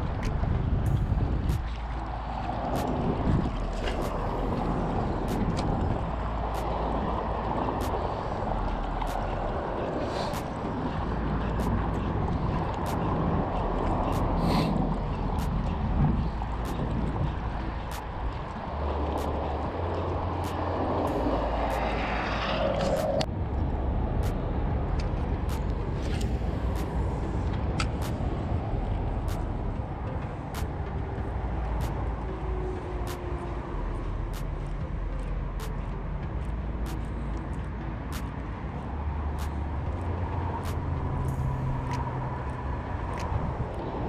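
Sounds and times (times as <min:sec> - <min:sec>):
low engine drone: 0:00.0 - 0:44.0
wind on microphone: 0:00.0 - 0:44.0.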